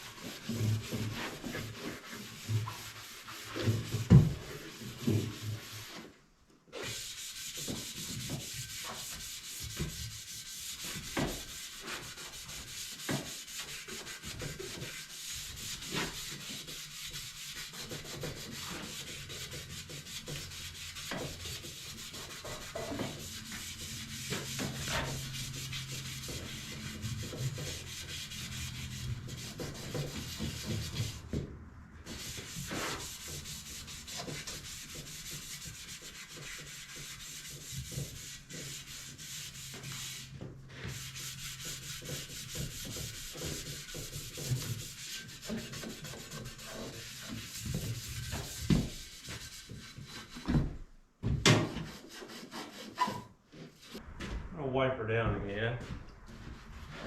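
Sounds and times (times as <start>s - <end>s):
sanding painted surface: 0.0s - 6.1s, 6.7s - 31.4s, 32.0s - 50.6s, 51.8s - 54.0s, 56.3s - 57.0s.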